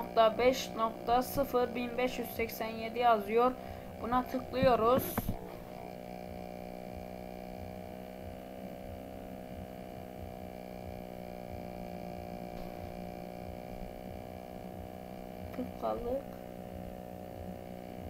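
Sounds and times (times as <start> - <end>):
electrical hum: 0.0 - 18.0
faint low rumble: 0.0 - 18.0.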